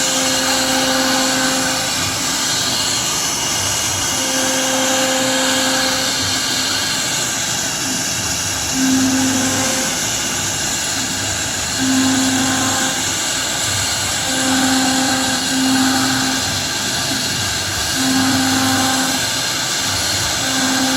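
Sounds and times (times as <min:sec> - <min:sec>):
lower hum: 0:00.0 - 0:19.3
router spindle hissing: 0:00.0 - 0:20.9.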